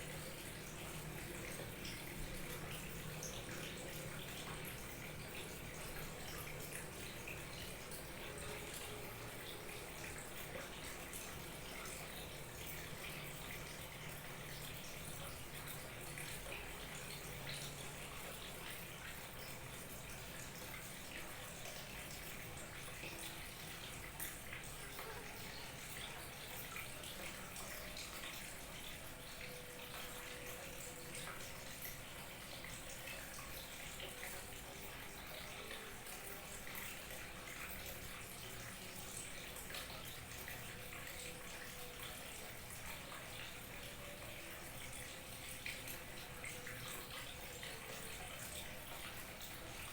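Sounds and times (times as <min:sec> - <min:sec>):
small waterfall trickling: 0:00.0 - 0:49.9.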